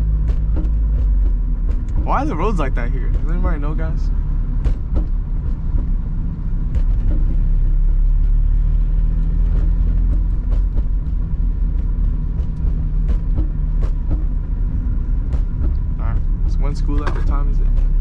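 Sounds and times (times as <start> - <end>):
faint engine hum: 0.0 - 18.0
tyres rumbling on rough road: 0.0 - 18.0.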